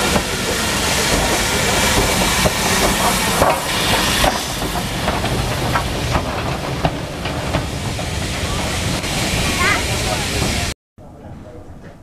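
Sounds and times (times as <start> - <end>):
steam hissing: 0.0 - 10.8.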